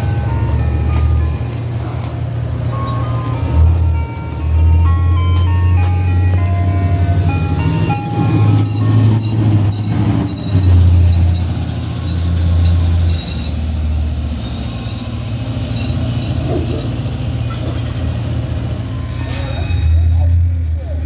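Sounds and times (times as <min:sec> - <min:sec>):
ice cream truck jingle music: 0:00.0 - 0:20.1
truck engine rumble: 0:00.0 - 0:21.0.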